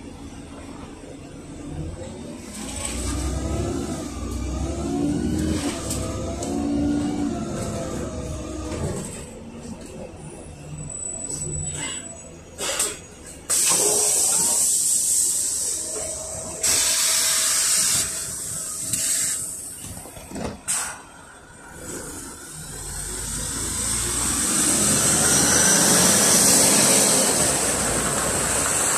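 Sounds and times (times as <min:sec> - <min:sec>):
bus engine rumble: 0:00.0 - 0:28.9.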